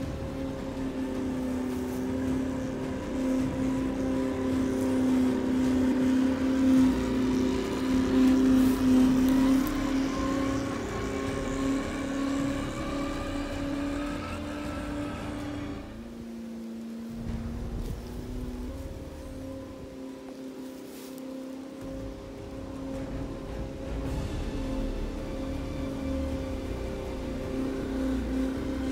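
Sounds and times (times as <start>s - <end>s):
electric motor and gears whining: 0.0s - 28.9s.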